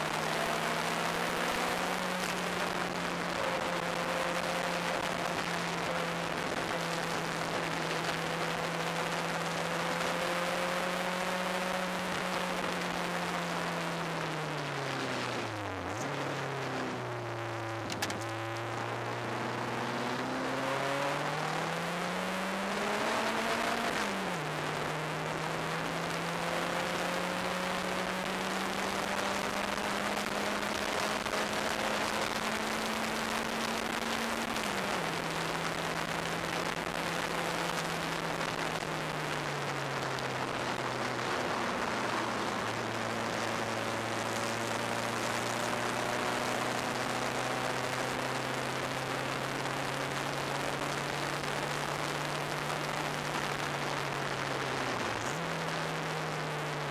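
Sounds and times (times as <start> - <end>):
turbocharged car engine at speed: 0.0 - 56.9
wind and road noise: 0.0 - 56.9.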